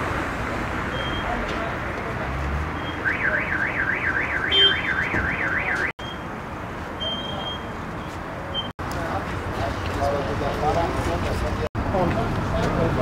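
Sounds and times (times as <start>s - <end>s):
street bustle: 0.0s - 13.0s.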